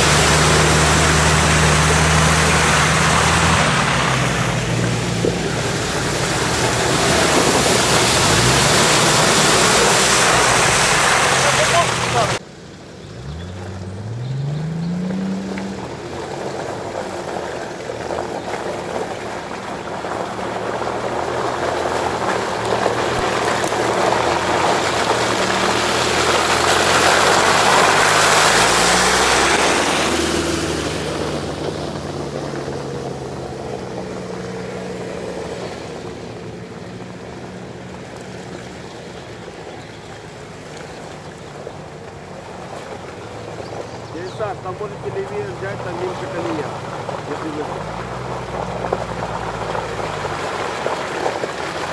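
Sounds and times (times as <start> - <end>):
off-road vehicle engine in mud: 0.0 - 51.9.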